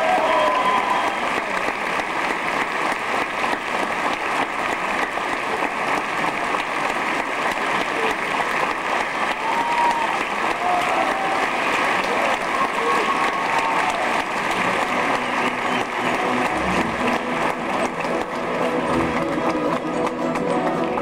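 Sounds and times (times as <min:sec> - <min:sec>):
audience applauding: 0:00.0 - 0:21.0
calls from crowd: 0:00.0 - 0:21.0.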